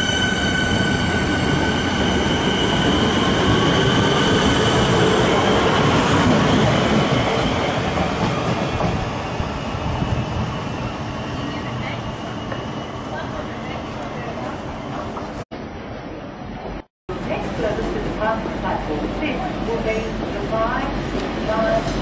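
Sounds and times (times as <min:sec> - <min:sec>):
train wheels rumbling on rails: 0:00.0 - 0:15.4, 0:17.1 - 0:22.0
high train whine: 0:00.0 - 0:22.0.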